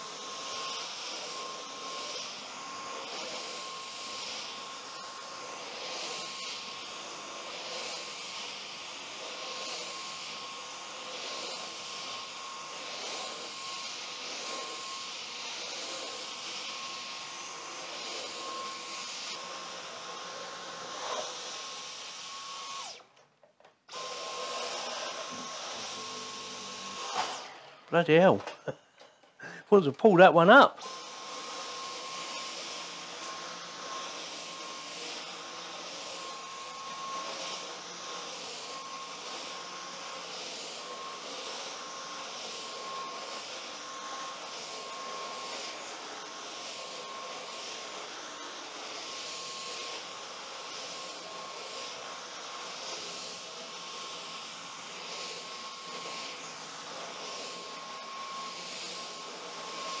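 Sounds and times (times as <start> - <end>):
vacuum cleaner whine: 0.0 - 60.0.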